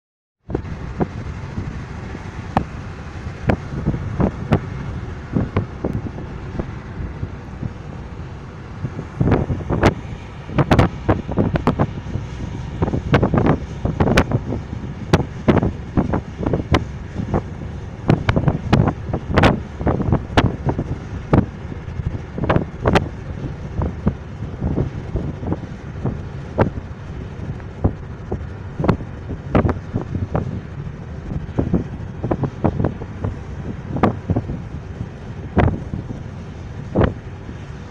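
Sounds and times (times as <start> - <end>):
car road and engine rumble: 0.4 - 37.9
knocks and buffets on microphone: 2.5 - 7.8, 8.8 - 34.6.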